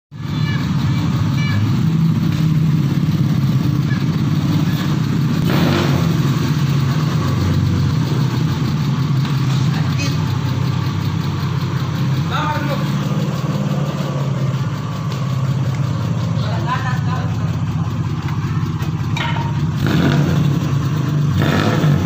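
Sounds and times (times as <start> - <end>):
engine idling through exhaust: 0.1 - 22.0.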